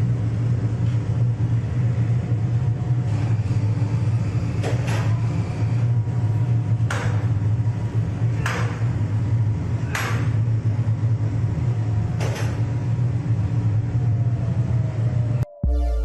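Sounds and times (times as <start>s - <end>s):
industrial machine humming: 0.0s - 16.0s.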